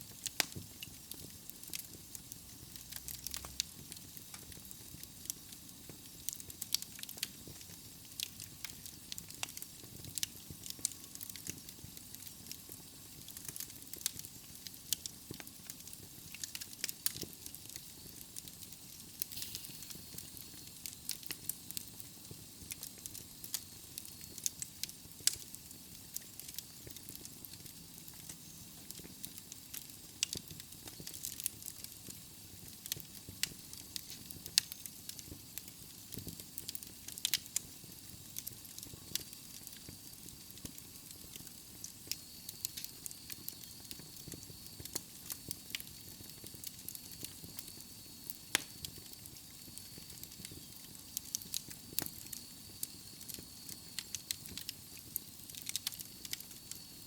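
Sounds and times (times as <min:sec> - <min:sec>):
soft fire hiss: 0:00.0 - 0:57.0
logs crackling and popping: 0:00.1 - 0:57.0.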